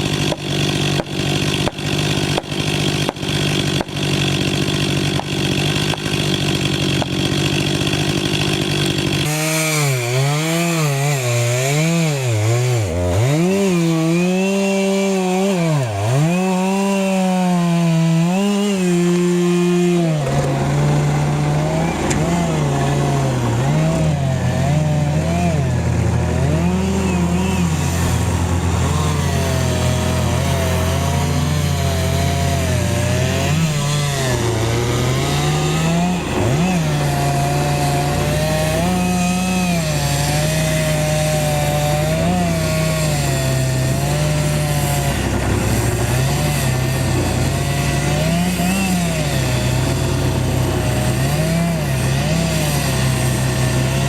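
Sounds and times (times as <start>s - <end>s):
chainsaw cutting through wood: 0.0s - 54.0s.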